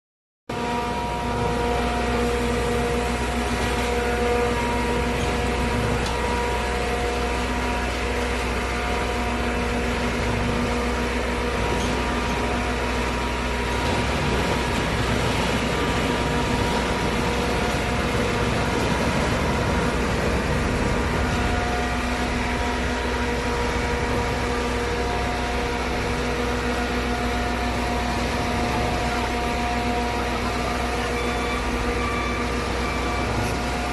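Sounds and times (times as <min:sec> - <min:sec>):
concrete mixer pump running: 0:00.5 - 0:33.9.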